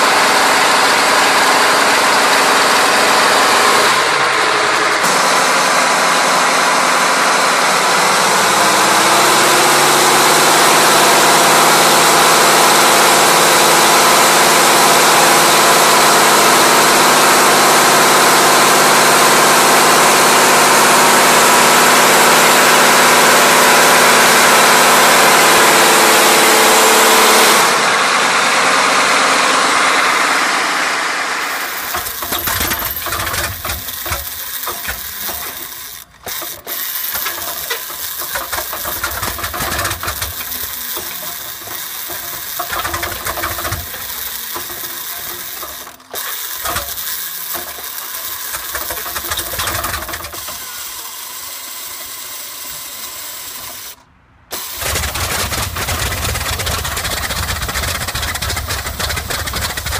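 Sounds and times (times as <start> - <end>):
radial aero-engine rattling unevenly: 0.0 - 27.9, 31.4 - 51.0, 54.8 - 59.9
tank engine running: 0.0 - 59.9.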